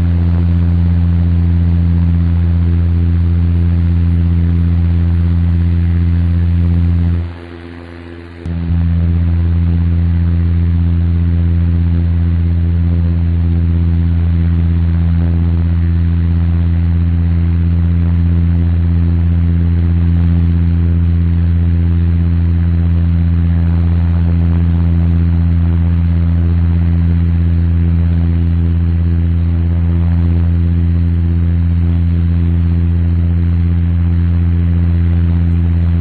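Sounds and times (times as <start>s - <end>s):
airliner engine drone: 0.0s - 12.6s, 15.0s - 36.0s.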